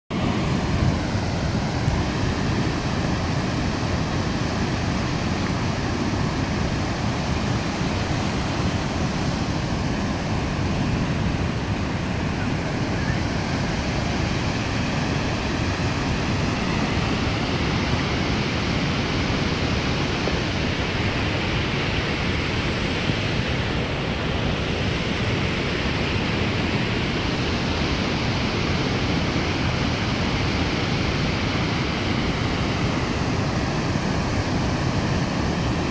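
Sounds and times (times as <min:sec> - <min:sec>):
waterfall rushing: 0:00.1 - 0:35.9.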